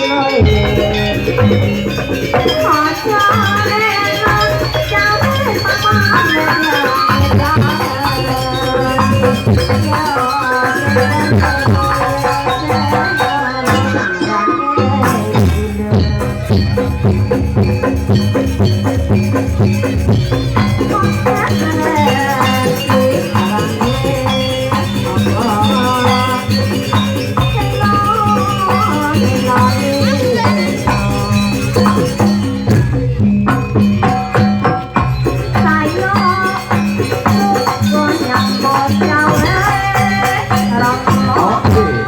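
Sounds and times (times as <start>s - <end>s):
jingling rattle: 0.0s - 14.3s, 15.0s - 42.0s
drums and gongs playing: 0.0s - 42.0s
wavering high melody: 0.0s - 42.0s.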